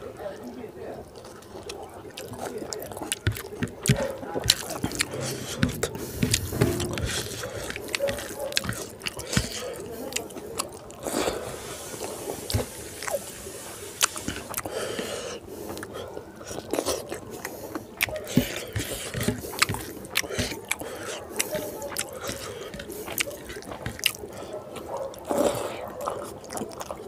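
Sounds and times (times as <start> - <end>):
close-up chewing: 0.1 - 27.0.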